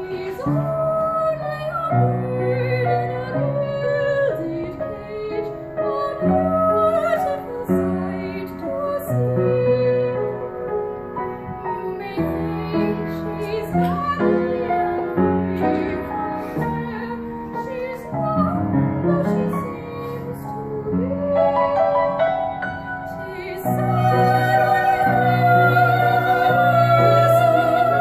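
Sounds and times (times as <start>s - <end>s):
woman singing operatic ballad: 0.0s - 10.7s, 11.3s - 28.0s
piano accompaniment: 0.0s - 28.0s.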